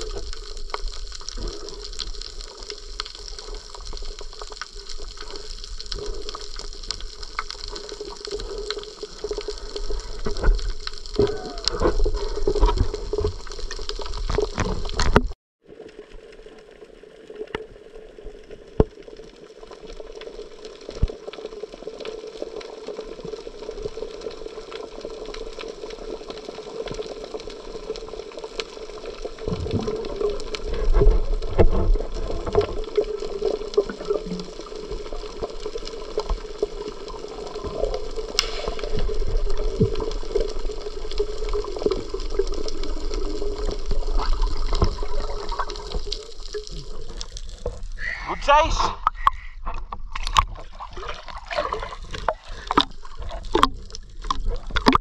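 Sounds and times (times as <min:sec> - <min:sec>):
moving water: 0:00.0 - 0:55.0.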